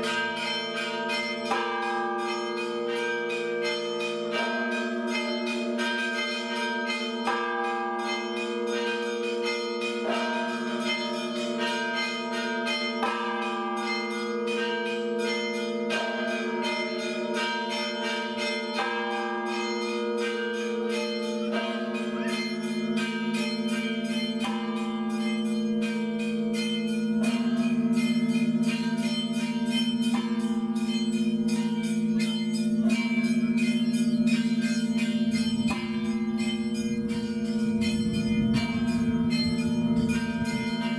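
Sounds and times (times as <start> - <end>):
deep church bell: 0.0 - 40.9
smaller bells ringing fast: 0.0 - 40.9.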